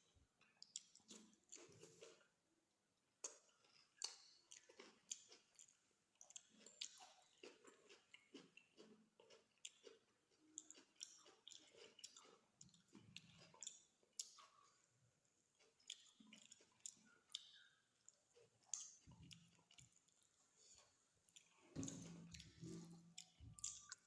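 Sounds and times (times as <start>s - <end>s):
person chewing food: 0.3s - 2.4s, 3.2s - 24.0s.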